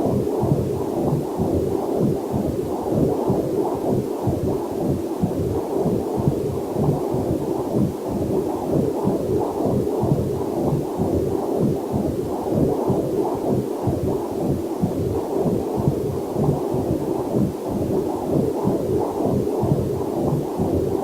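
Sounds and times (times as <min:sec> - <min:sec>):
fetal heartbeat whooshing pulses: 0:00.0 - 0:21.0.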